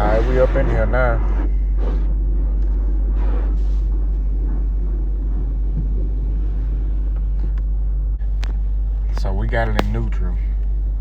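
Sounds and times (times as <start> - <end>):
car engine idling: 0.0 - 11.0
car wash humming: 0.0 - 11.0.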